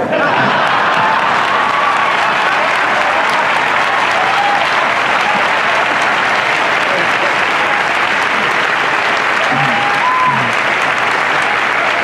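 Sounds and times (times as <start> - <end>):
large audience applauding: 0.0 - 12.0
faint voices: 2.2 - 12.0.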